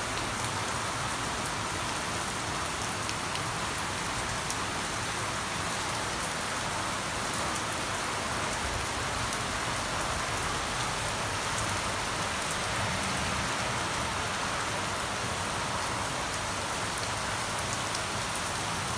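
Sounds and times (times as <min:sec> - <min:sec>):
heavy rain on shrubs and lawn: 0:00.0 - 0:18.9.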